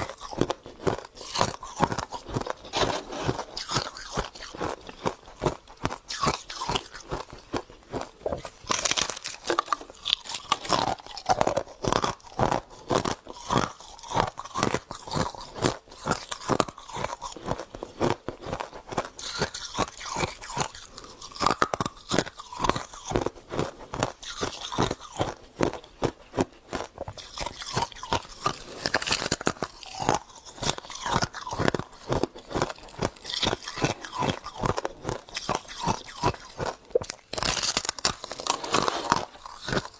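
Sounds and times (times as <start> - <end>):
crunching and chewing frost: 0.0 - 39.9.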